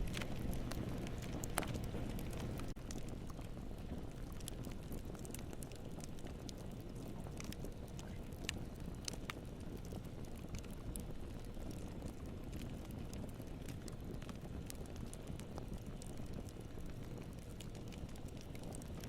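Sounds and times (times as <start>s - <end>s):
burning wood crackling and popping: 0.0s - 19.0s
campfire flames rumbling: 0.0s - 19.0s.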